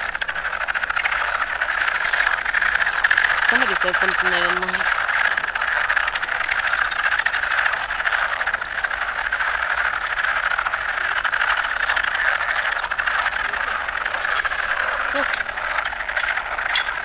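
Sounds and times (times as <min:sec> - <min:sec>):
chorus of frogs trilling: 0:00.0 - 0:17.0.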